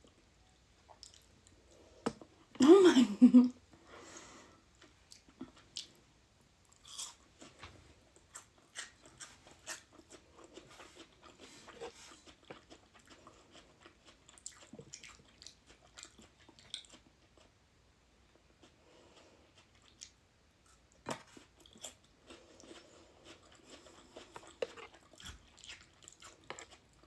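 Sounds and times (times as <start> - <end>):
person chewing food: 0.8 - 2.5, 4.8 - 6.1, 6.7 - 17.6, 18.3 - 27.0.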